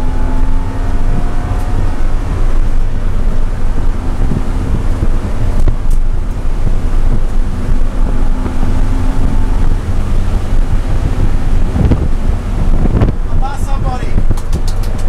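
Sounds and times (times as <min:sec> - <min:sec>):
car engine accelerating: 0:00.0 - 0:15.0
road noise: 0:00.0 - 0:15.0
wind noise: 0:00.0 - 0:15.0.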